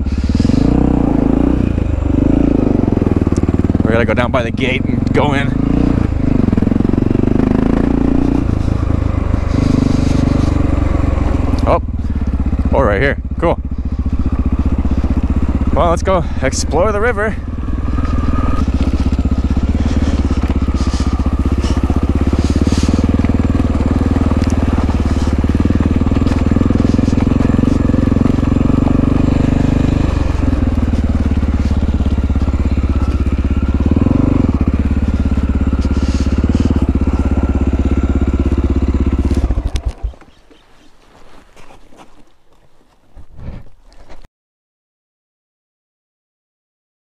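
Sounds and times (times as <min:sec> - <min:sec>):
dirt bike engine running: 0:00.0 - 0:44.2.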